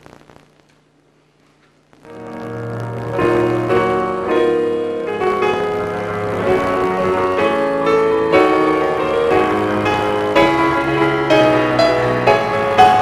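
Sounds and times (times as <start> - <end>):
piano chords: 2.1 - 13.0.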